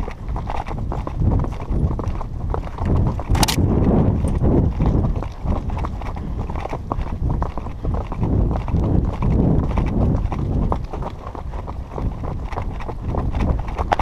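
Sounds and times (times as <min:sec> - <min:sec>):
horse hoofbeats on dirt: 0:00.0 - 0:14.0
low rumble on microphone: 0:00.0 - 0:14.0.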